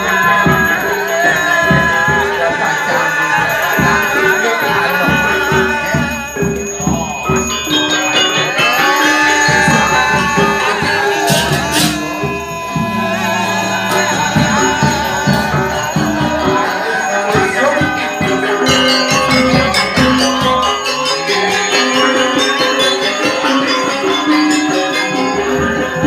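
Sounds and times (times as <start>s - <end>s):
jingling rattling percussion: 0.0s - 26.0s
ringing bell-like tones: 0.0s - 26.0s.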